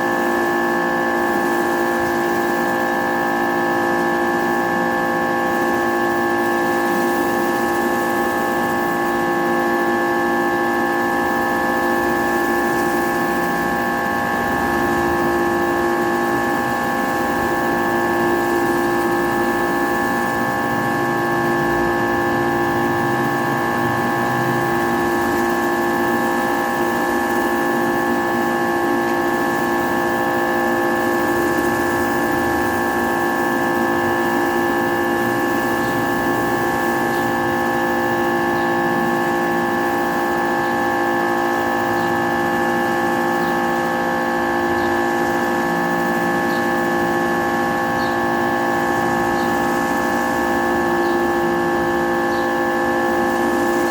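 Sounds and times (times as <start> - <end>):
pressure washer whining: 0.0 - 53.9.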